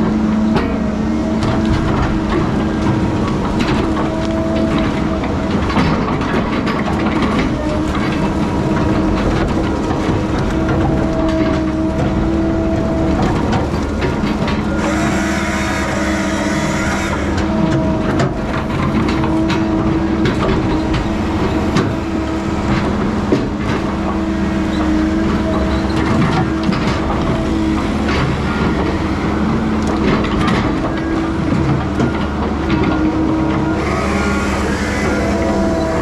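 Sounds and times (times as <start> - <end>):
heavy diesel machinery running: 0.0 - 36.0
knocks and clatter: 0.0 - 36.0.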